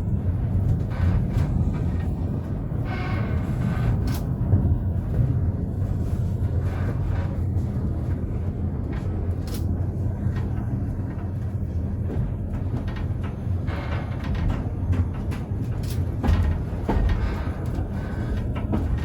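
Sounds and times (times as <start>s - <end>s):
tram carriage rumbling on rails: 0.0s - 19.0s.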